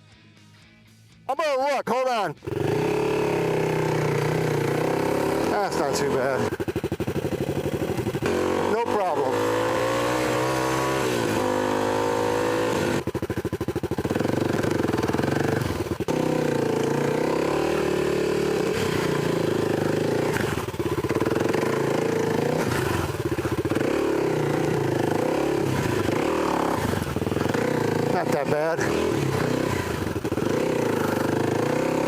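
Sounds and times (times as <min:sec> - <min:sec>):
dirt bike engine: 0:01.3 - 0:32.0.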